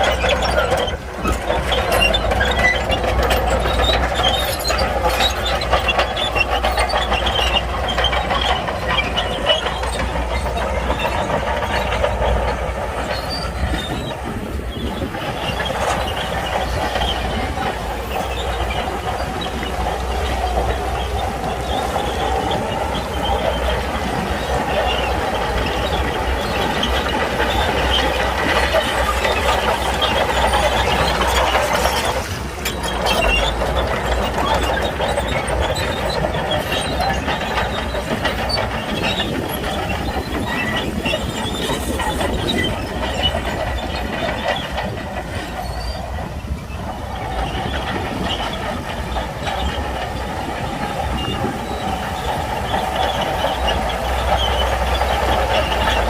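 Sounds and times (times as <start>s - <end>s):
diesel engine under load: 0.0s - 56.0s
steel tracks clattering: 0.0s - 56.0s.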